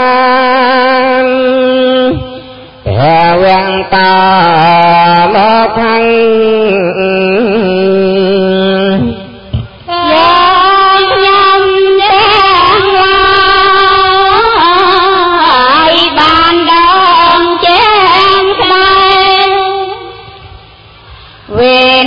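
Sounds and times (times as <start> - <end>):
high voice chanting: 0.0 - 20.8, 21.4 - 22.0.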